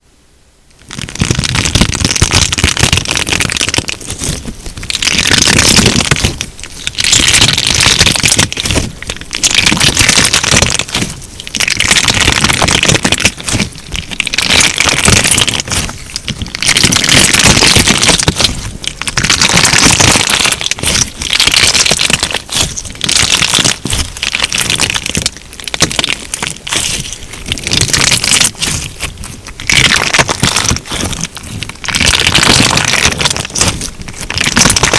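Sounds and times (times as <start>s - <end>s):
crunchy slime squeezed by hand: 0.8s - 34.9s.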